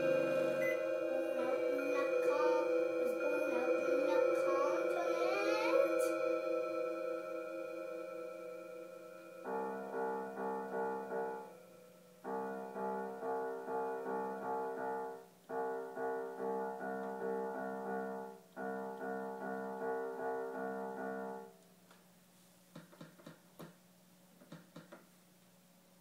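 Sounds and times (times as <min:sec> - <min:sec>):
electronic keyboard notes: 0:00.0 - 0:21.5.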